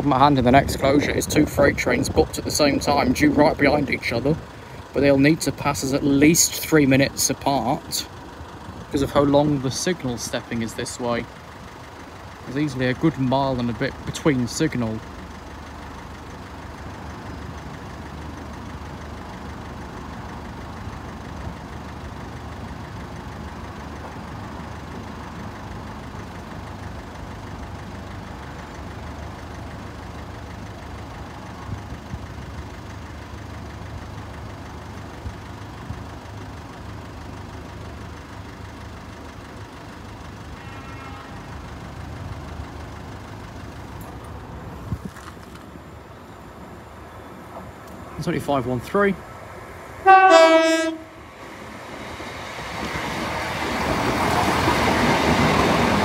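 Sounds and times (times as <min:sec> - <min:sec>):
vehicle engines idling: 0:00.0 - 0:56.0.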